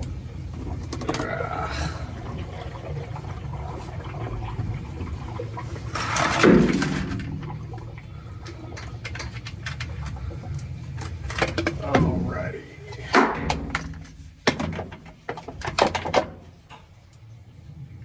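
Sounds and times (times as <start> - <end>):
water rushing and gurgling: 0.0 - 16.8
steady low hum: 0.0 - 18.0.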